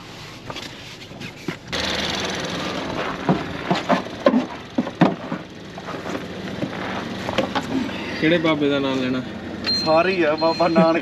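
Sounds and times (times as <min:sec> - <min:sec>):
diesel trucks idling: 0:01.6 - 0:11.0.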